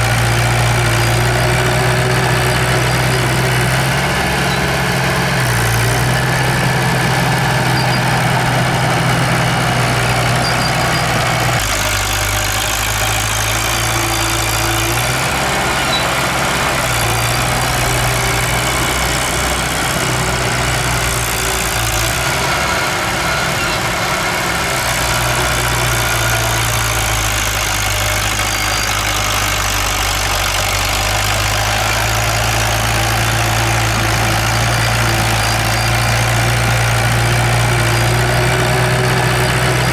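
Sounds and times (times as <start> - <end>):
earthmoving machine diesel engine: 0.0 - 39.9.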